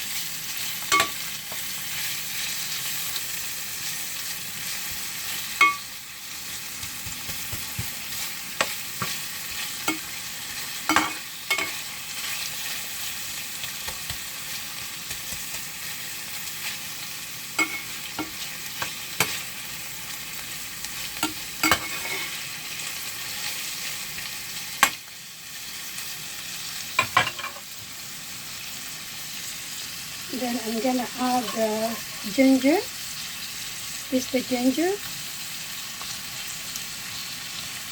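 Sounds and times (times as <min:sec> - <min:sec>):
meat sizzling in a frying pan: 0:00.0 - 0:37.9.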